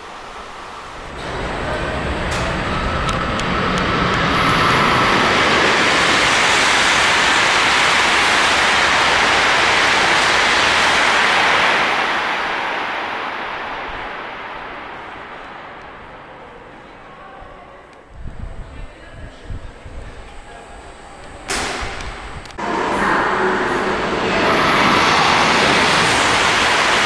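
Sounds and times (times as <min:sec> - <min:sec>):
high-speed train passing: 0:00.0 - 0:27.0.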